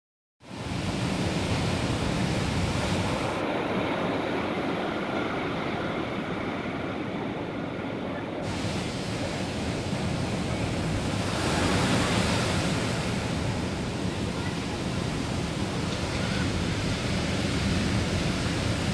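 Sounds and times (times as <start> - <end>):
ocean surf breaking on beach: 0.4 - 18.9.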